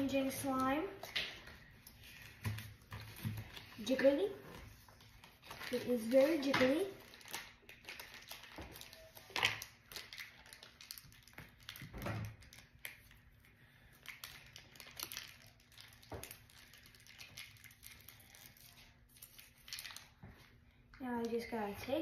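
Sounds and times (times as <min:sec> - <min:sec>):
plastic wrappers crinkling: 0:00.0 - 0:21.7.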